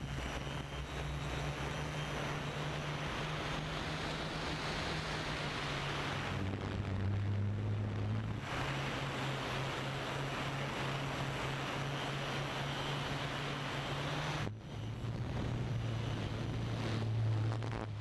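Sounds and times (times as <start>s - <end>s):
drone propellers humming: 0.0s - 18.0s
wind noise on microphone: 0.0s - 18.0s.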